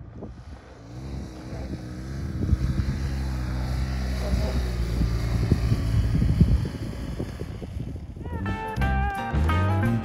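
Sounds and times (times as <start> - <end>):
motorcycle engine under throttle: 0.0 - 8.2.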